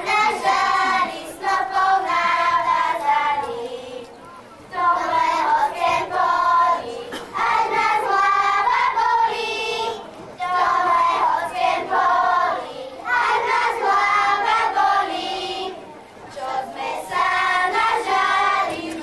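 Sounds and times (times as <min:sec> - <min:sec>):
children singing folk song: 0:00.0 - 0:19.0.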